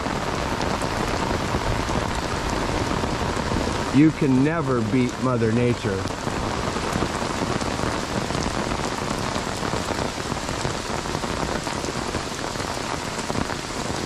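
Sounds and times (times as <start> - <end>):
heavy rain on flooded road: 0.0 - 14.0.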